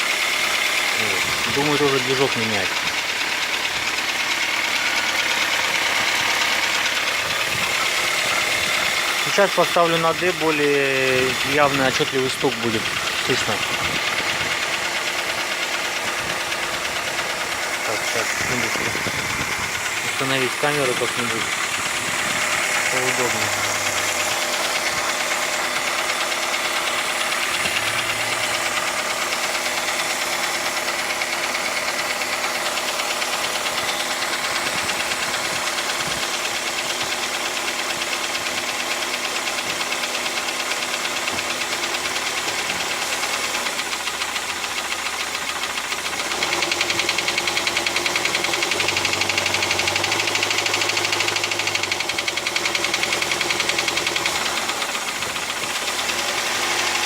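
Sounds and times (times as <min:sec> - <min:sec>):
engine idling with knock: 0:00.0 - 0:57.0.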